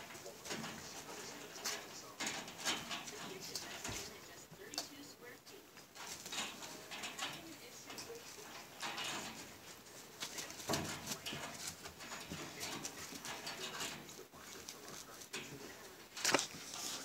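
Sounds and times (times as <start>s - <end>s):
scratching and rattling on wire: 0.0s - 17.0s.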